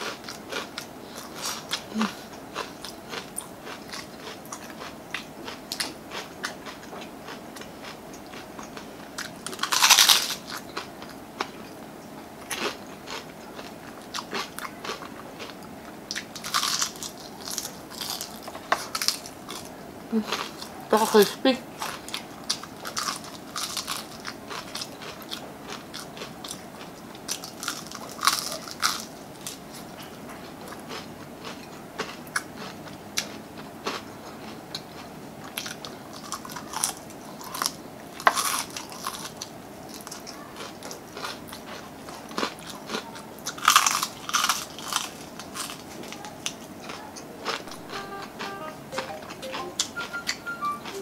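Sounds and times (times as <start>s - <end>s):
crunchy chewing of fried chicken: 0.0s - 48.7s.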